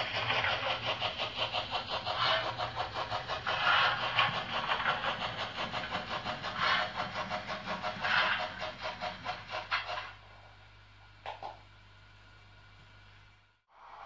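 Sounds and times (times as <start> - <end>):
rhythmic steam chuffs: 0.0 - 11.0, 13.6 - 14.0.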